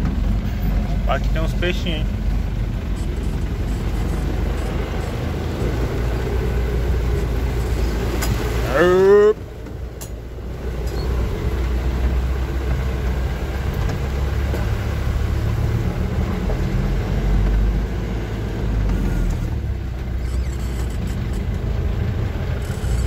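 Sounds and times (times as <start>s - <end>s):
tyres on dirt track: 0.0s - 23.0s
vehicle engine rumbling: 0.0s - 23.0s.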